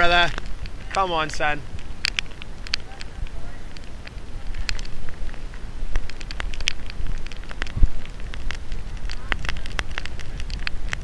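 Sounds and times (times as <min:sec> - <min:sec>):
rain striking microphone: 0:00.0 - 0:11.0
wind rumble on microphone: 0:00.0 - 0:11.0.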